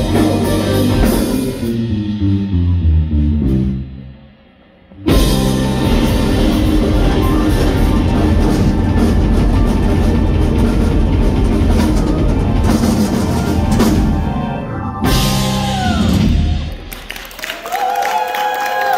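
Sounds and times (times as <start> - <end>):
live rock band playing: 0.0 - 4.2, 5.0 - 17.2.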